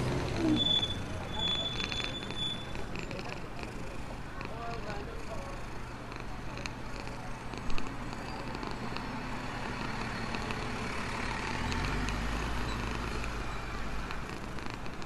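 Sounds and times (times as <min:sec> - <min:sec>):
motor vehicle passing: 0:00.0 - 0:15.0.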